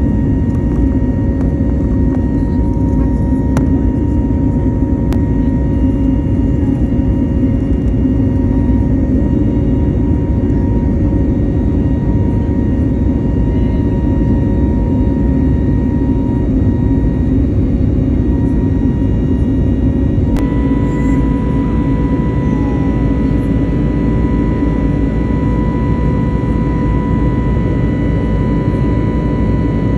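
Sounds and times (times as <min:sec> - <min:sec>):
aircraft cabin rumble: 0:00.0 - 0:29.9
faint whining tones: 0:00.0 - 0:29.9.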